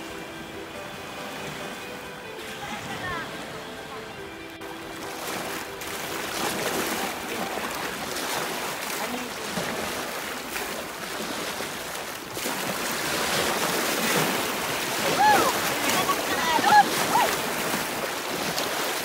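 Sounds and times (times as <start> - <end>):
small waves lapping: 0.0 - 19.0
water sloshing around wading legs: 0.0 - 19.0.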